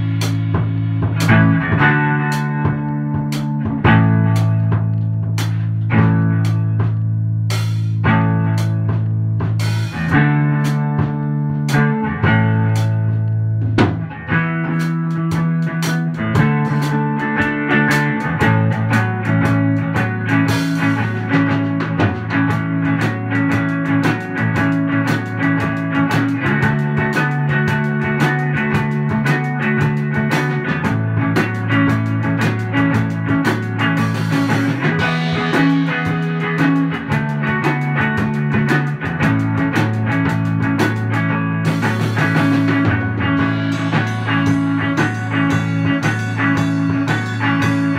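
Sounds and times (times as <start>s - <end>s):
drum kit: 0.0s - 47.9s
electric guitar: 0.0s - 47.9s.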